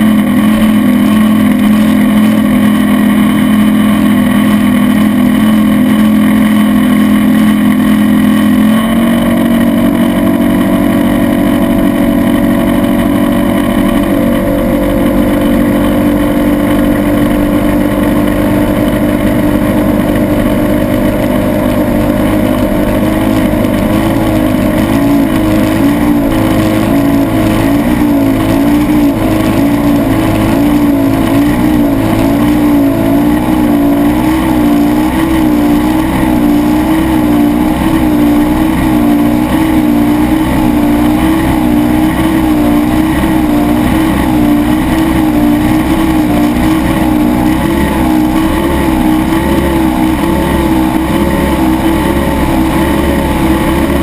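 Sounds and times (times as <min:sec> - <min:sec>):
outboard engine running flat out: 0:00.0 - 0:54.0.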